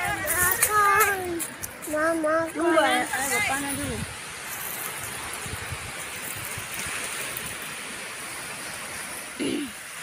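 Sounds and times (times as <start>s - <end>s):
waves washing onto pebble beach: 0.0s - 10.0s.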